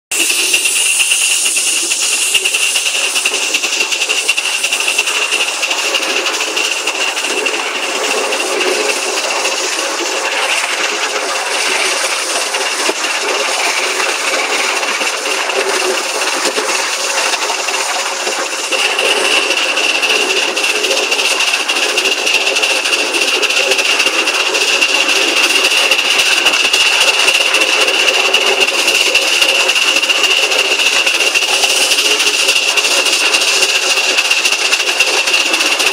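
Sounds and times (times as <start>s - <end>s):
steady high-pitched tone: 0.1s - 35.9s
steam hissing: 0.1s - 35.9s
wheels rattling on track: 0.1s - 35.9s.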